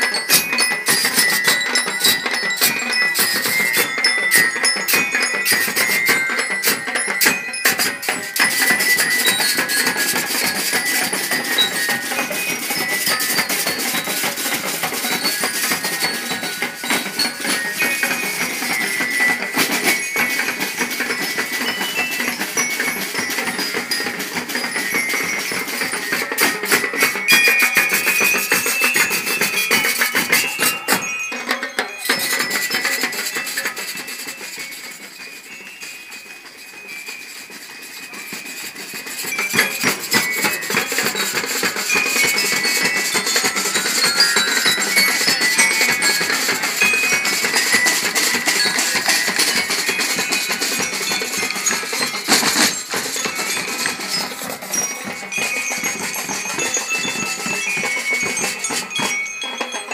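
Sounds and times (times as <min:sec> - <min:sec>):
high ringing melody: 0:00.0 - 0:59.9.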